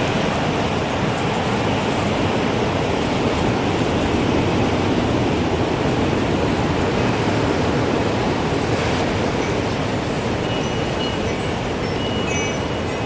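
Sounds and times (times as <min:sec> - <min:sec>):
wind blowing: 0:00.0 - 0:13.0.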